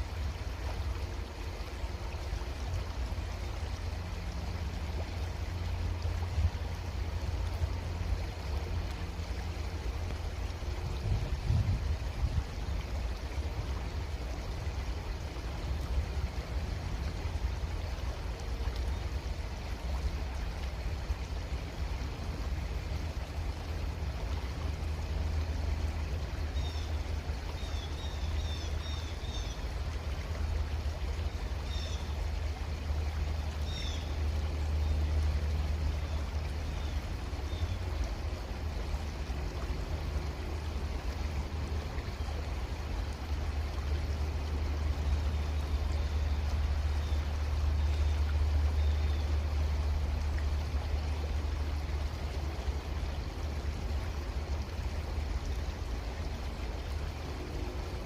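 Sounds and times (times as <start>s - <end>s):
creek water flowing: 0.0s - 58.0s.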